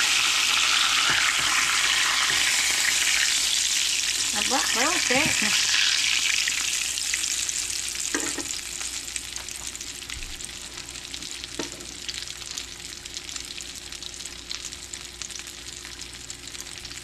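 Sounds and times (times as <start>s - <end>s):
oil sizzling and crackling: 0.0s - 17.0s.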